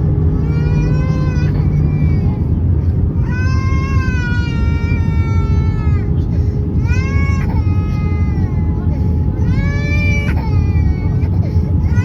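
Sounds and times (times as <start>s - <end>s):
airliner cabin roar: 0.0s - 12.0s
small child crying: 0.4s - 2.4s, 3.2s - 6.2s, 6.8s - 12.0s.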